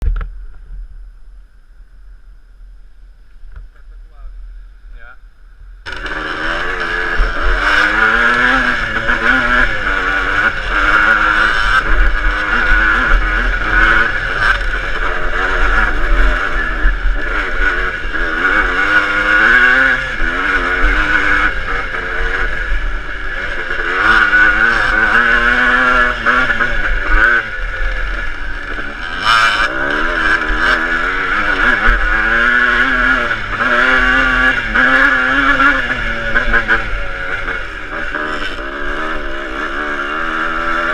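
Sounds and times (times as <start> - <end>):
motocross bike engine revving: 5.8 - 40.9.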